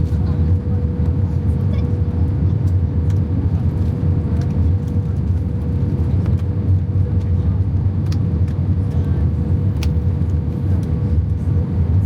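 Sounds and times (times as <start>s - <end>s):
constant hum: 0.0s - 12.0s
vehicle low rumble: 0.0s - 12.0s.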